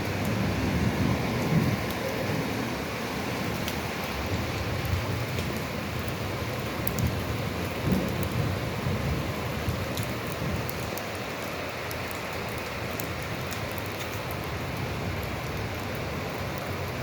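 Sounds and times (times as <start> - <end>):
raindrops ticking close by: 0.0 - 17.0
steady rainfall: 0.0 - 17.0.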